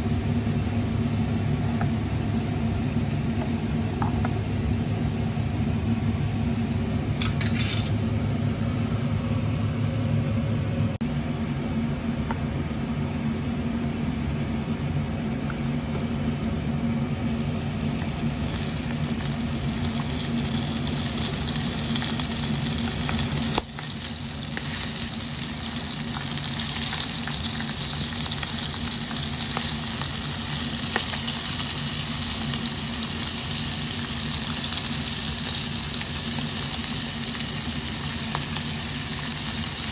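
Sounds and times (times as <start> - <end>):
deep-frying sizzle and bubbling: 0.0 - 11.0, 14.0 - 39.9.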